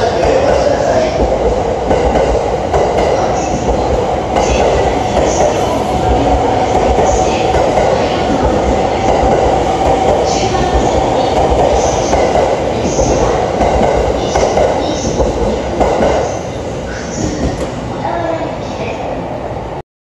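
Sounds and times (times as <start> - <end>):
train wheels rumbling on rail: 0.0 - 19.7.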